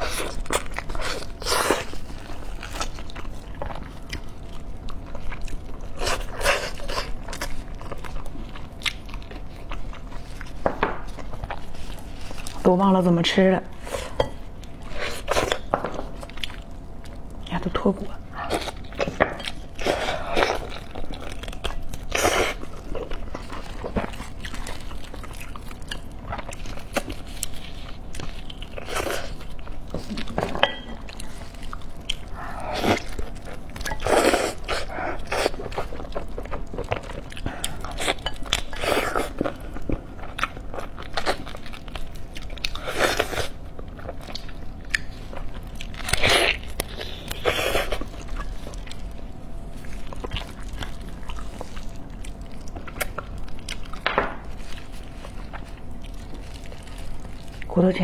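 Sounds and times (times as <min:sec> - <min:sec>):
chewing and biting: 0:00.0 - 0:12.7, 0:13.8 - 0:57.7.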